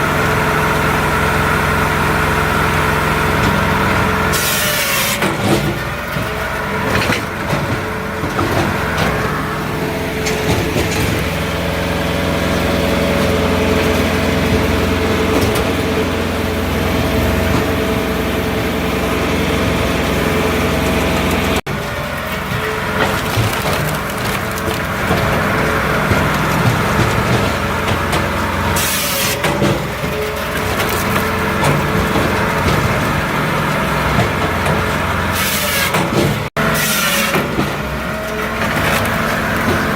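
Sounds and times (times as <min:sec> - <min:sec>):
diesel engine drone: 0:00.0 - 0:39.9
wood cracking and splintering: 0:03.4 - 0:16.4, 0:20.7 - 0:39.9.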